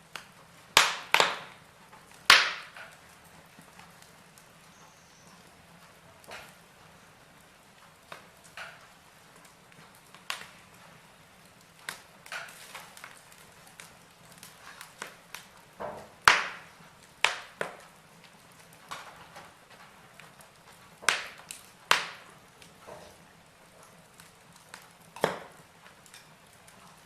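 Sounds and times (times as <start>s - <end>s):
faint low hiss: 0.0s - 27.0s
wood fire crackling: 0.0s - 27.0s.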